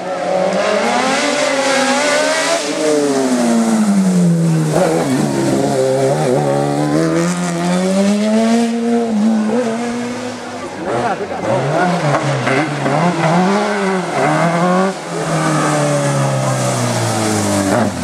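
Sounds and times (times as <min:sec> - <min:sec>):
race car engine at full throttle: 0:00.0 - 0:18.0.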